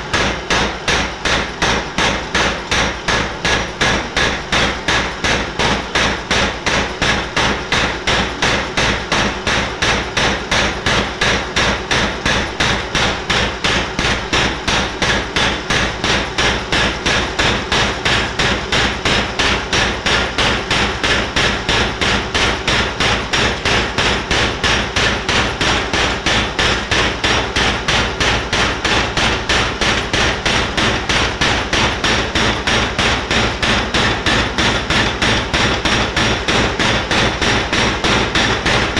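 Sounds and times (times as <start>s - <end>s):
power hammer pounding hot metal: 0.0s - 38.9s.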